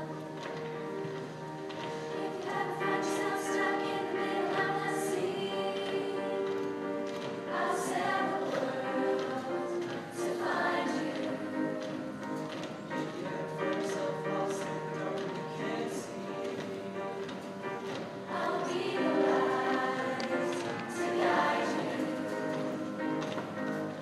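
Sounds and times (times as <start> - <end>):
choir singing in parts: 0.0 - 24.0.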